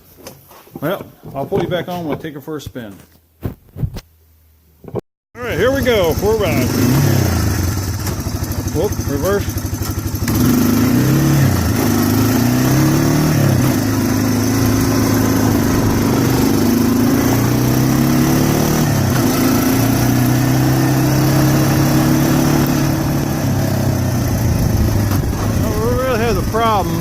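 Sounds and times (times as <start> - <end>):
atv engine running: 5.4 - 27.0.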